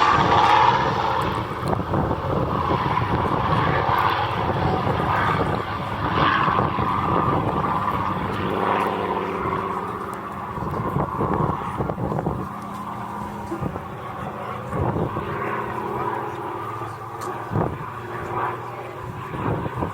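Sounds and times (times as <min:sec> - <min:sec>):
propeller plane engine droning: 0:00.0 - 0:19.9.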